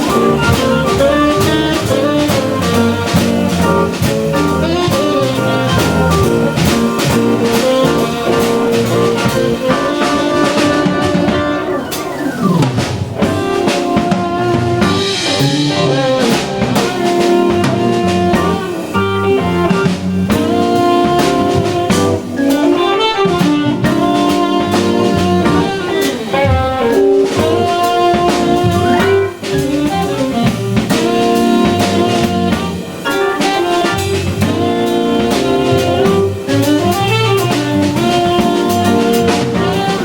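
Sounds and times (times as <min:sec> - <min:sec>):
drum kit beat: 0:00.0 - 0:40.0
electric guitar: 0:00.0 - 0:40.0
organ chords: 0:00.0 - 0:40.0.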